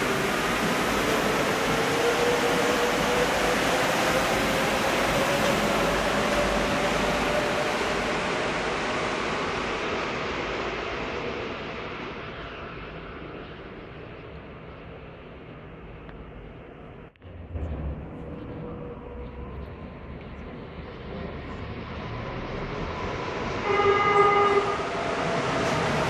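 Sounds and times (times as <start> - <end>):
train running rush: 0.0 - 26.0.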